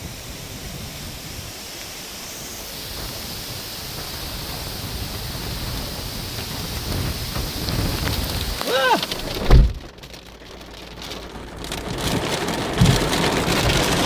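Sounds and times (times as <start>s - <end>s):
rain hissing: 0.0s - 14.0s
wind: 0.0s - 14.0s.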